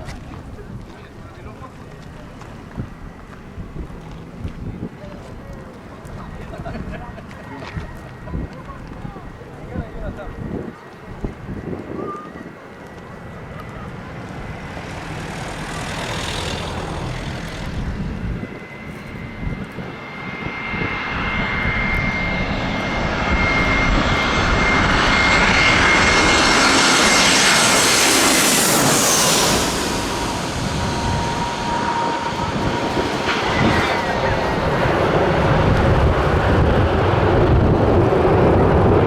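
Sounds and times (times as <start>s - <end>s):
jet engines whining and rumbling: 0.0s - 39.0s.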